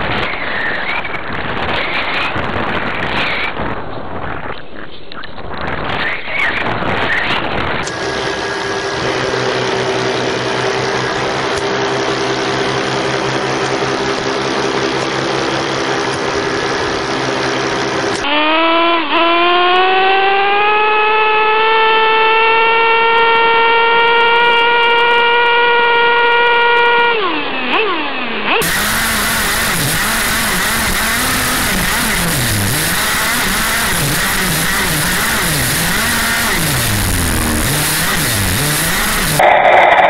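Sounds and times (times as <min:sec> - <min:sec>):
off-road vehicle engine running: 0:06.6 - 0:40.0.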